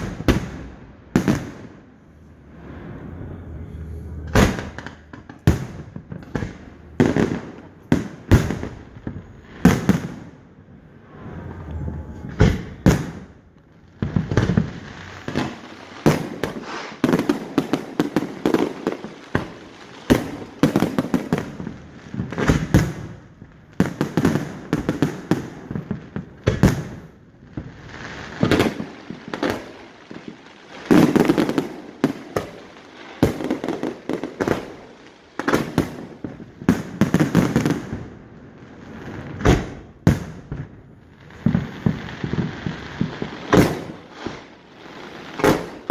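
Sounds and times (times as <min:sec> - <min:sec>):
fireworks bangs and booms: 0:00.0 - 0:45.9.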